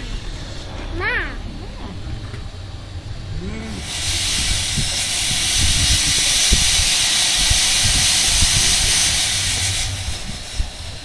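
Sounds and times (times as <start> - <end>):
low rumbling: 0.0 - 11.0
steam hissing: 0.0 - 11.0.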